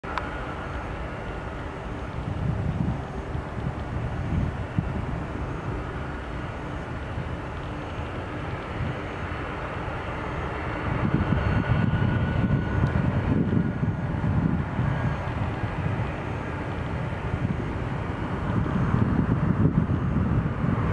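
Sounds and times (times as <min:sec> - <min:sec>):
jet engines rumbling: 0:00.0 - 0:20.9.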